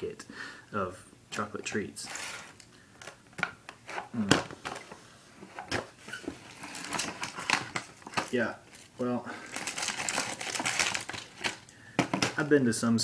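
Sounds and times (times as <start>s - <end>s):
candy packaging rustling: 1.4s - 12.5s.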